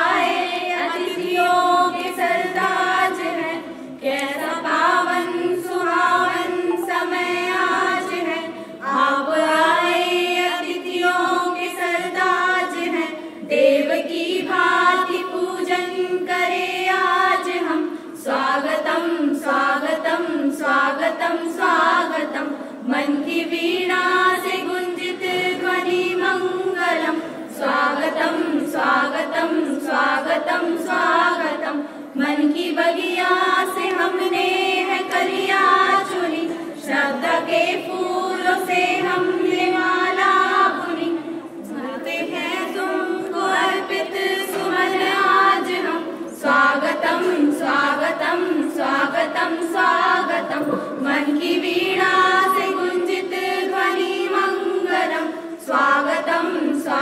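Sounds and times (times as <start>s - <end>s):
women singing unaccompanied: 0.0s - 57.0s.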